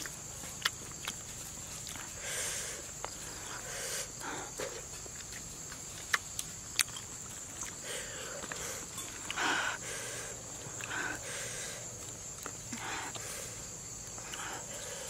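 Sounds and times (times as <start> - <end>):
mouth and eating noises: 0.0 - 15.0.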